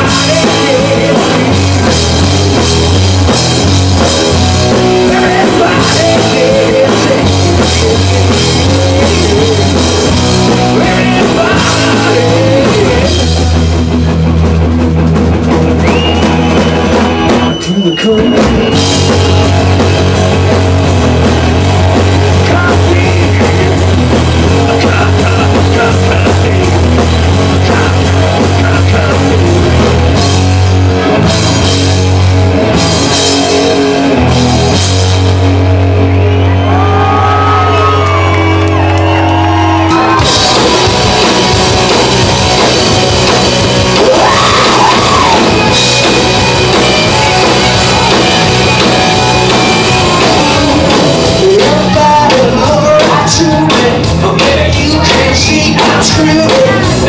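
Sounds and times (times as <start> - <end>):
driving drum kit: 0.0 - 57.0
rock band playing live: 0.0 - 57.0.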